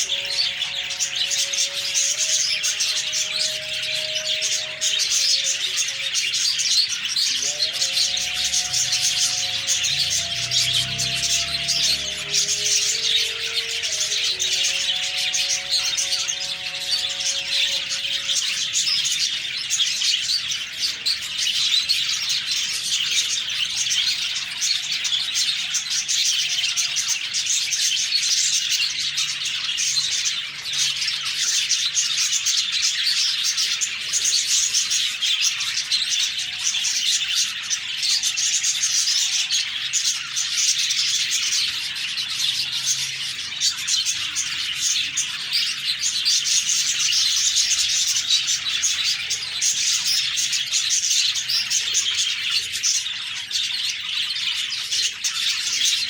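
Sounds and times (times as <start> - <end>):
flock of budgerigars chirping: 0.0 - 56.0.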